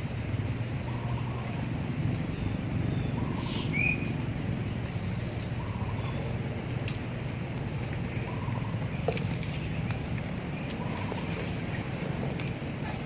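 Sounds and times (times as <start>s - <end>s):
faint bird or insect calls: 0.0s - 13.0s
low rushing noise: 0.0s - 13.0s.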